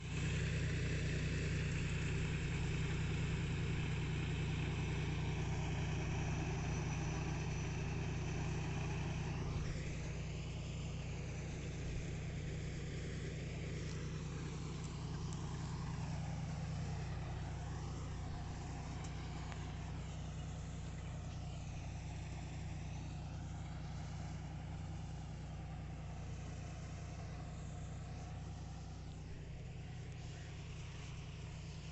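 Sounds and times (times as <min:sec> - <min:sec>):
tractor engine drone: 0:00.0 - 0:31.9.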